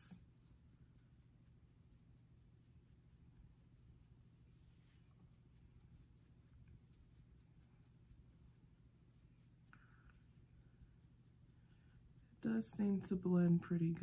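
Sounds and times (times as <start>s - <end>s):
low room hum: 0.0s - 14.0s
makeup brush strokes on skin: 0.0s - 14.0s.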